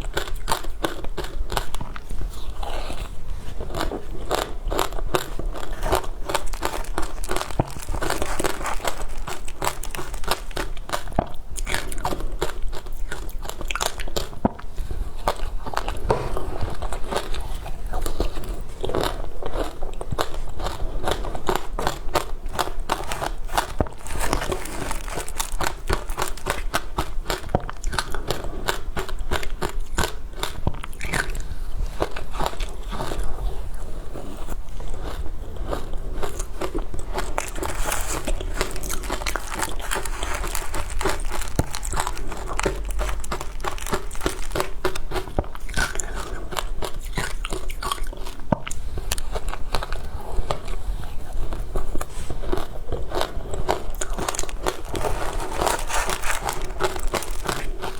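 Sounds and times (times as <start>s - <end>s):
chewing: 0.0s - 57.9s
crunching ice: 0.1s - 14.4s, 15.4s - 31.4s, 35.1s - 48.4s, 52.6s - 57.9s.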